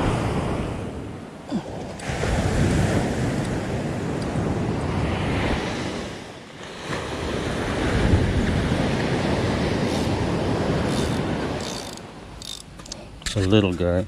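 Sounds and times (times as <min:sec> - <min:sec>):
ocean surf breaking: 0:00.0 - 0:12.4
wind buffeting microphone: 0:00.0 - 0:14.0.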